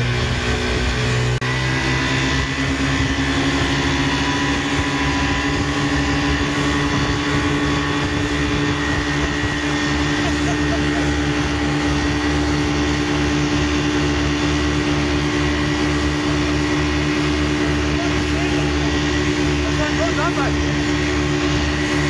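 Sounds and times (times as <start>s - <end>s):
outboard motors running: 0.0s - 22.0s
wind and spray rushing: 0.0s - 22.0s.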